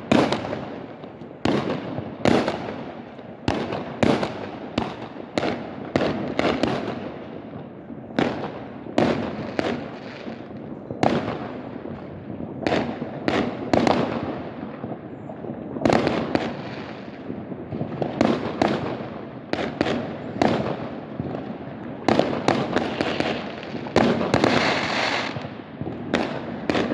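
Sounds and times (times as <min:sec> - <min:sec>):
firework crackling: 0:00.0 - 0:26.9
fireworks bangs: 0:00.0 - 0:26.9.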